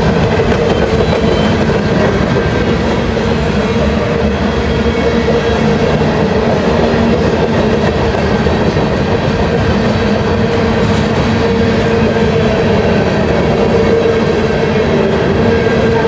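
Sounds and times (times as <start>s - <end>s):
steel wheels rolling on rails: 0.0s - 16.0s.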